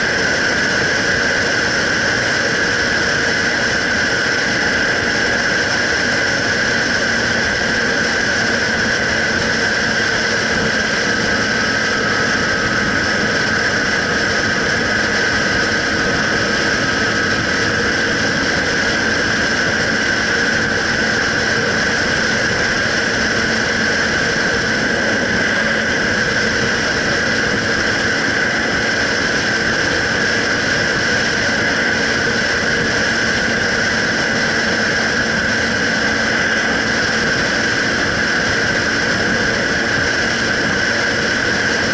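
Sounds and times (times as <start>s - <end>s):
motorcycle engine running: 0.0s - 41.9s
wind rush: 0.0s - 41.9s.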